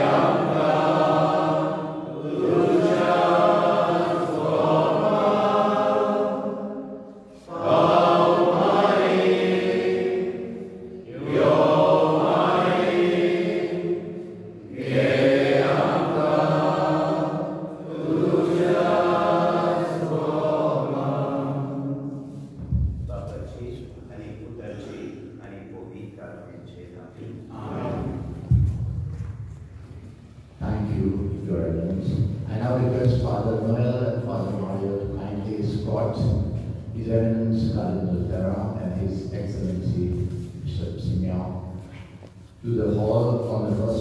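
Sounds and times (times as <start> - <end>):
voices chanting a sung prayer: 0.0 - 25.5, 27.1 - 29.2, 30.6 - 42.0.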